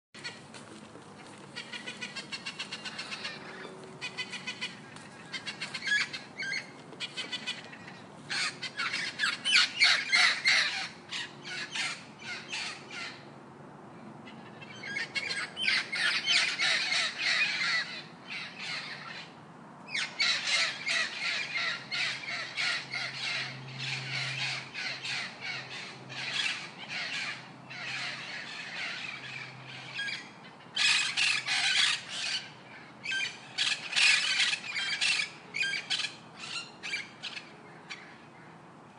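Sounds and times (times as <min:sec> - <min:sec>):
parrot squawking: 0:01.6 - 0:13.2, 0:14.6 - 0:19.3, 0:19.9 - 0:38.0.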